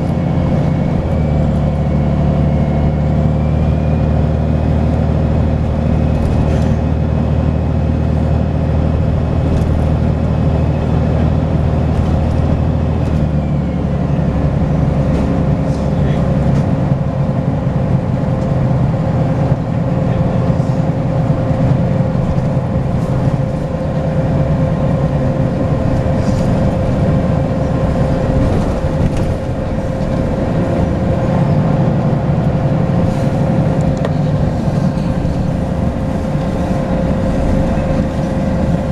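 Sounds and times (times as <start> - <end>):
bus diesel engine pulling: 0.0 - 38.9
road noise: 0.0 - 38.9.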